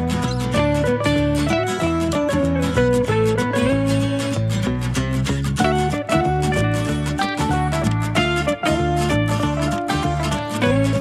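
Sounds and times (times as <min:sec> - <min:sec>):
upbeat music with plucked guitar: 0:00.0 - 0:11.0.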